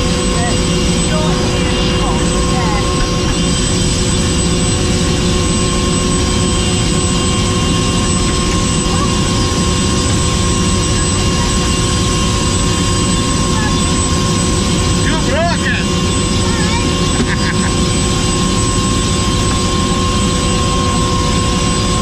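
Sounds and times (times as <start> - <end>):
constant whining tones: 0.0 - 22.0
helicopter engine and rotors: 0.0 - 22.0.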